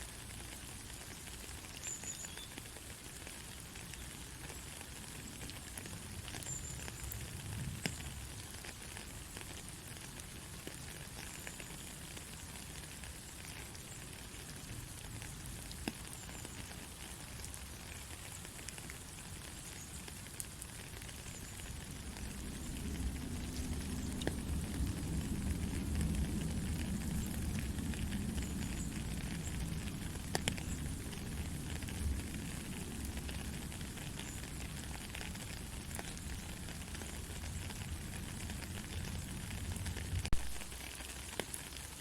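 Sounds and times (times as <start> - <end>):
gentle rain falling: 0.0 - 42.0.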